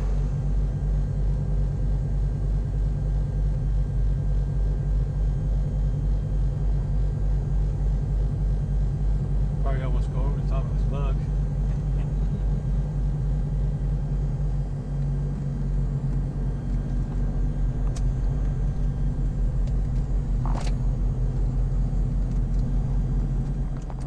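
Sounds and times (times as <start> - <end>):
piston aircraft engines droning: 0.0 - 24.0.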